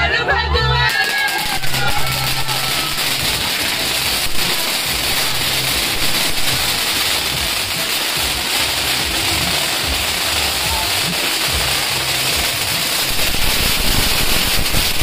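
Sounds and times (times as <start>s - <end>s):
music: 0.0s - 15.0s
fireworks hissing and crackling: 0.9s - 15.0s.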